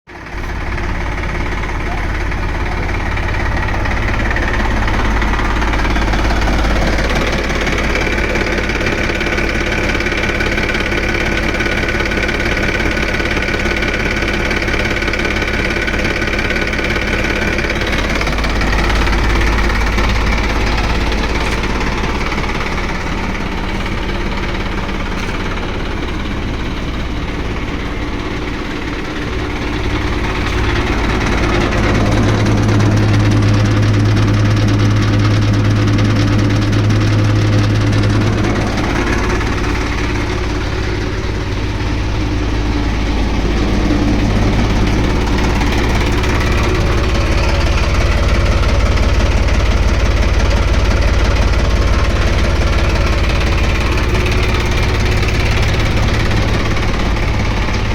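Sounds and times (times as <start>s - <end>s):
tractor diesel engine idling: 0.0s - 57.9s.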